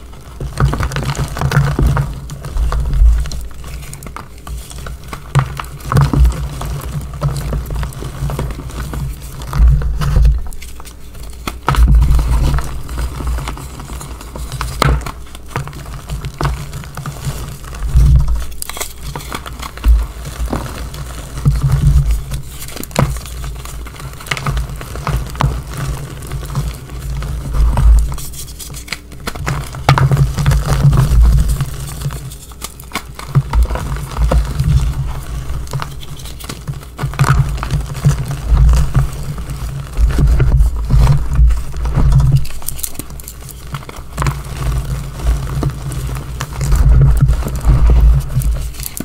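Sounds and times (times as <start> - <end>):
chalk crunching and crumbling: 0.0 - 49.0.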